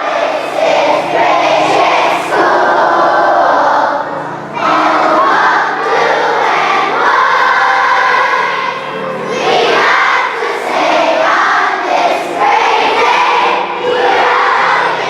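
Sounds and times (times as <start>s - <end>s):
crowd singing together: 0.0s - 15.0s.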